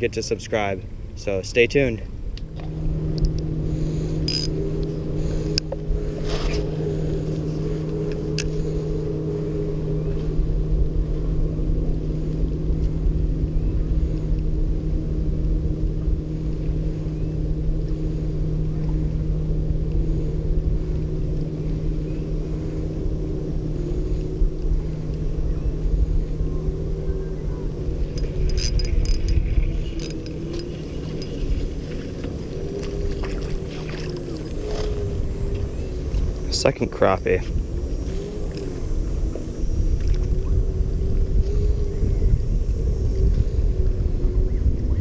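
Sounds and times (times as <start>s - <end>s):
motor hum: 0.0s - 45.0s
wind rumbling on microphone: 0.0s - 45.0s.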